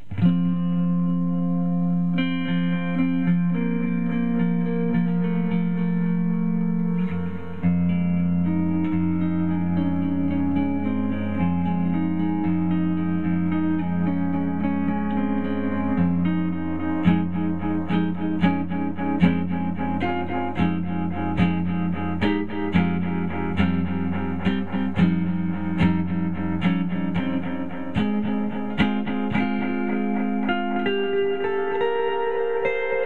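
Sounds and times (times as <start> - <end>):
picked guitar notes with echoes: 0.0 - 33.0.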